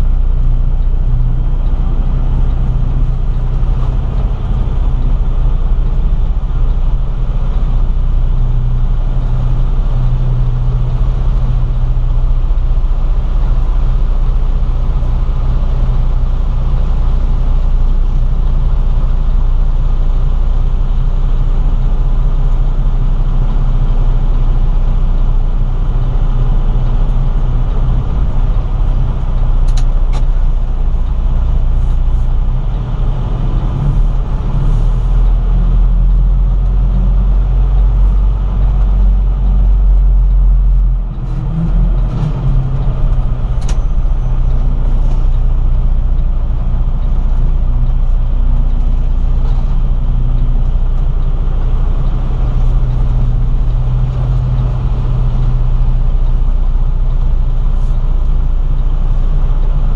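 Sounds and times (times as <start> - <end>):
diesel truck engine rumbling: 0.0 - 59.9.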